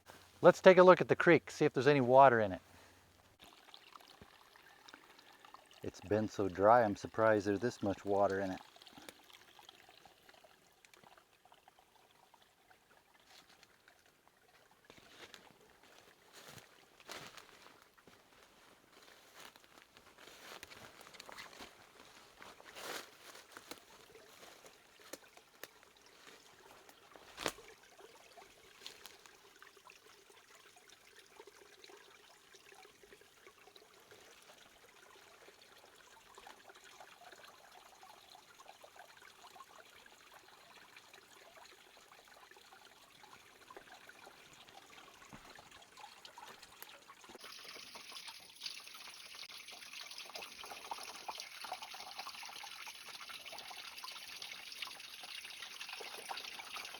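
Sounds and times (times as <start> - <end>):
creek trickling: 0.0 - 56.9.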